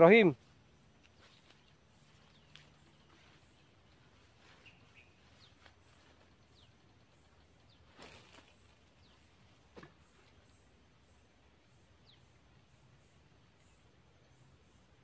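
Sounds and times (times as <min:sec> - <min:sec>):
faint bird chirps: 0:00.1 - 0:15.0.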